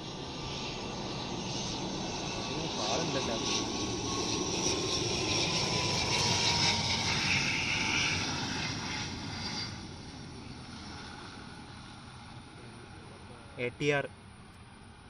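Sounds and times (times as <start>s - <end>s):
airliner engines passing by: 0.0s - 15.0s.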